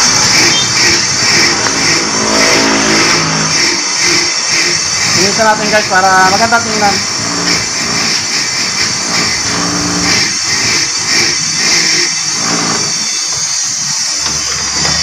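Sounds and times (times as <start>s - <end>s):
bench grinder motor hum: 0.0s - 15.0s
metal grinding hiss: 0.0s - 15.0s.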